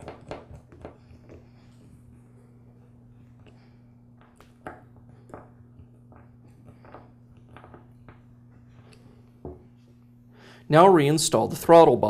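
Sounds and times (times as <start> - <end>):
low hum: 1.0 - 12.0.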